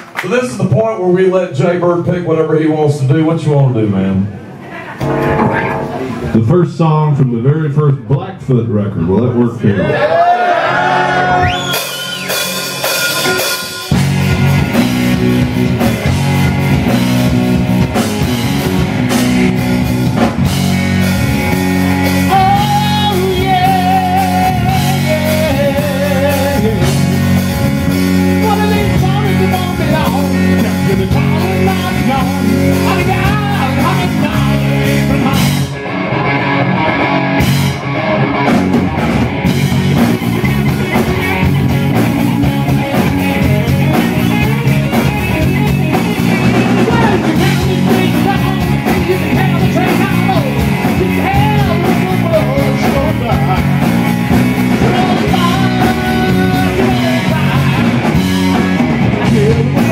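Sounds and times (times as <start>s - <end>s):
rock band playing live: 4.4s - 6.6s, 10.9s - 59.9s.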